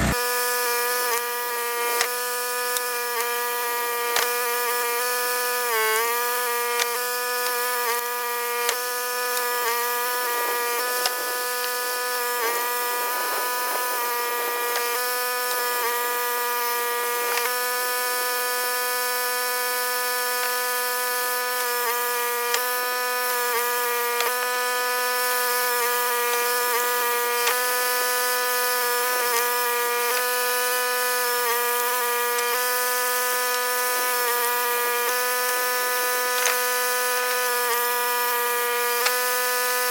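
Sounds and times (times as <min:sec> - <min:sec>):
log splitter running: 0:00.0 - 0:39.9.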